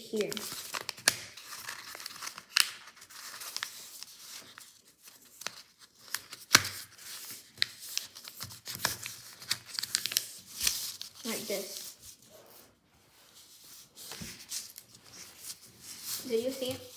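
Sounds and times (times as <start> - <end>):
paper being folded and creased: 0.0 - 16.9.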